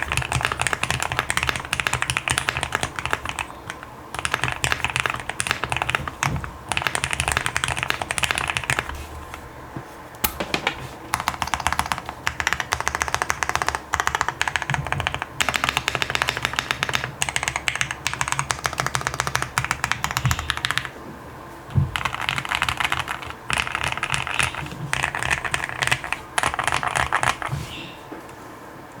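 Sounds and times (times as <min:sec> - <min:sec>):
mechanical keyboard typing: 0:00.0 - 0:08.9, 0:10.3 - 0:20.9, 0:21.9 - 0:27.5.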